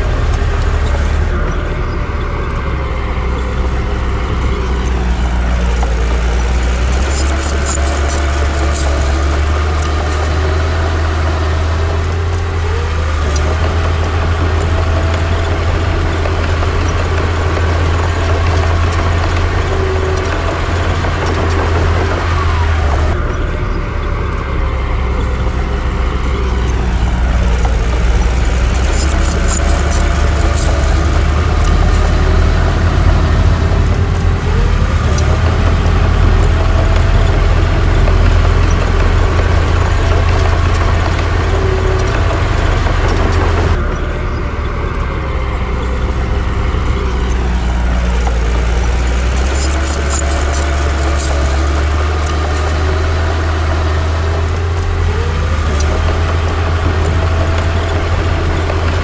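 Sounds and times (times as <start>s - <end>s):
metallic clinks: 0.0s - 23.2s, 25.1s - 59.0s
bulldozer diesel engine droning: 0.0s - 59.0s.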